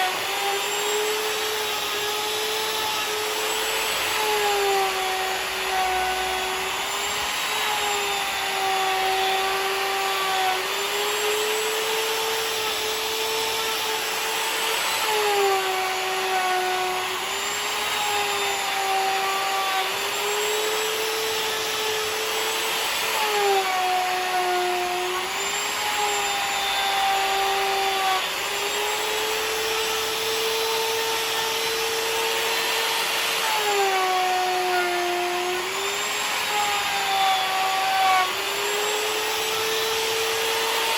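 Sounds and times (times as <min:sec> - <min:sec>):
electric router milling wood: 0:00.0 - 0:40.9.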